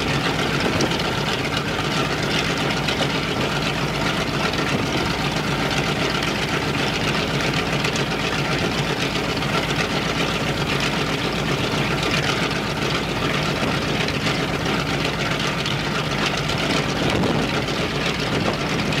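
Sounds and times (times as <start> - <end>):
radial piston engine running: 0.0 - 19.0.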